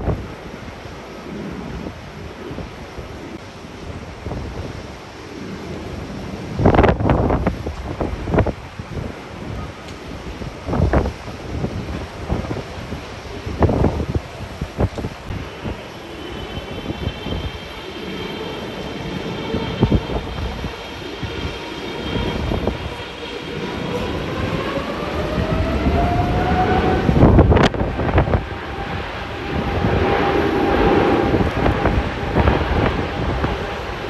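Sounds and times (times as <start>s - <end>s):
jet engines whining: 0.0s - 34.0s
wind buffeting microphone: 0.0s - 34.0s.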